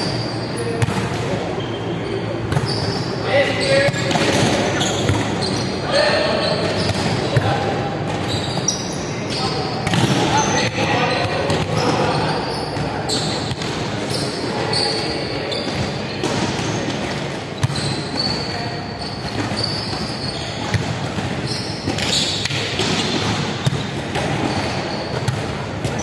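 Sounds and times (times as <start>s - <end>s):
shoes squeaking on wooden court: 0.0s - 26.0s.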